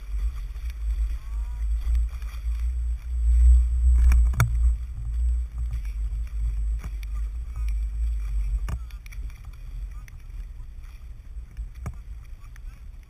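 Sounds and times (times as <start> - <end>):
choppy water lapping: 0.0 - 13.0
wind buffeting microphone: 0.0 - 13.0.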